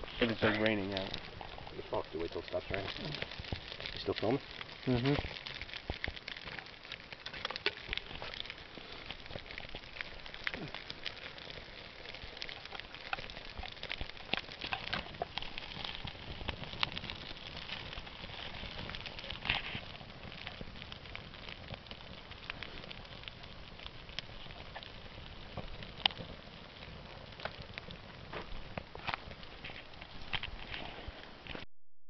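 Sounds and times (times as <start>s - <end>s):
fire hissing: 0.0s - 31.5s
fire crackling and popping: 0.0s - 31.7s.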